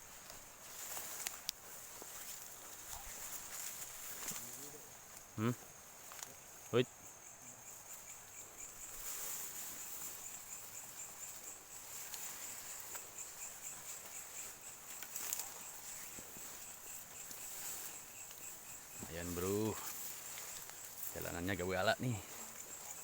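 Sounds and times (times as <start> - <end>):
faint rustles and knocks: 0.0 - 6.6, 7.8 - 23.0
crickets trilling: 0.0 - 23.0
lower pulsing insect trill: 0.0 - 23.0.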